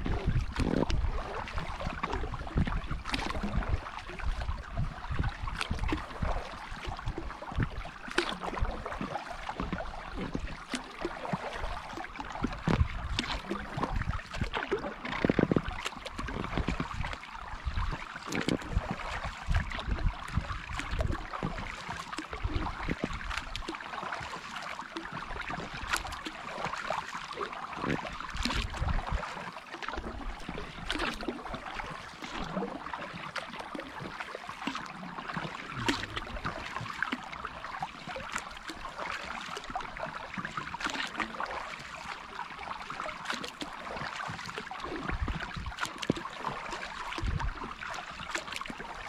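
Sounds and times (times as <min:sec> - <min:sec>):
paddle splashes and drips: 0:00.0 - 0:49.0.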